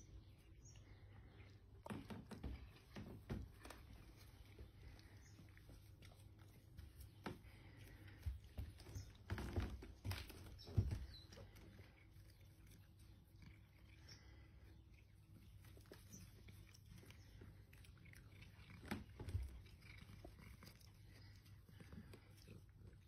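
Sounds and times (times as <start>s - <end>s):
cat chewing grass: 0.8s - 23.0s.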